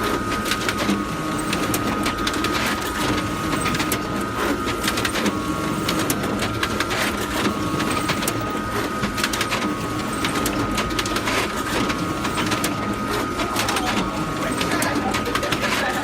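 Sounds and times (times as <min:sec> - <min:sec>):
photocopier running: 0:00.0 - 0:16.0.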